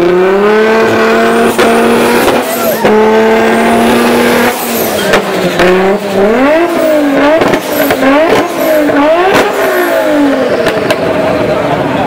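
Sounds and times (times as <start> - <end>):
exhaust cracks: 0.0 - 11.4
car engine revving: 0.0 - 12.0.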